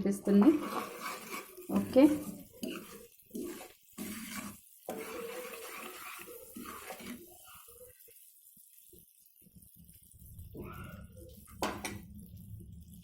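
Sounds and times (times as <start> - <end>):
syrup bubbling in a pan: 0.0 - 13.0.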